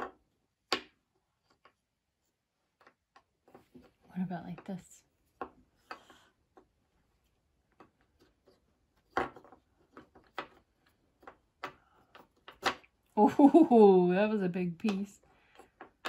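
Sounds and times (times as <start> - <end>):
wooden puzzle pieces clicking: 0.0 - 3.9, 4.5 - 13.2, 14.7 - 16.0.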